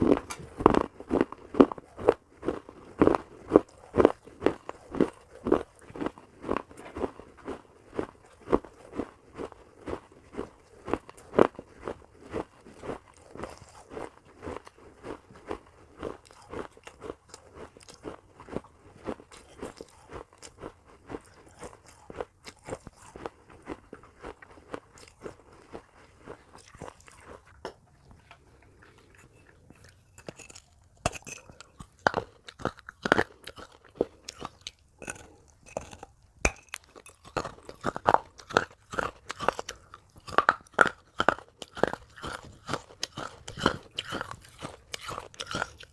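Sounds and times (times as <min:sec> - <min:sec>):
chewing and crunching clay: 0:00.0 - 0:45.9.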